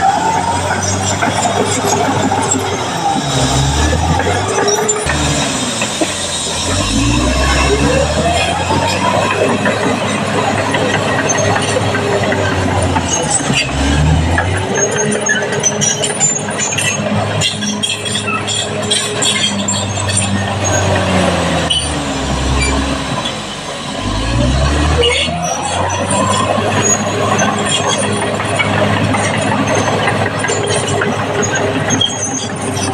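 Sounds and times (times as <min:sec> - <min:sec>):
bulldozer engine under load: 0:00.0 - 0:32.9
tracks clanking and rattling: 0:00.0 - 0:32.9.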